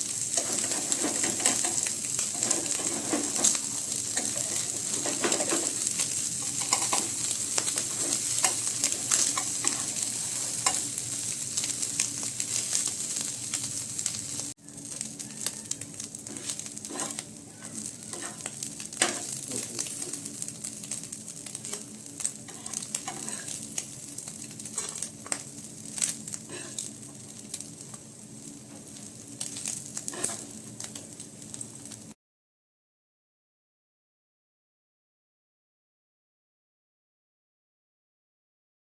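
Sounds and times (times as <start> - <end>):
fish sizzling in oil: 0.0 - 32.2.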